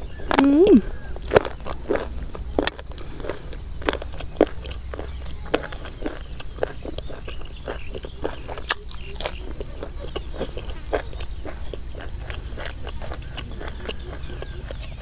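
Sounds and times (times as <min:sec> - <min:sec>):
insect chirping: 0:00.0 - 0:15.0
person chewing food: 0:00.0 - 0:15.0.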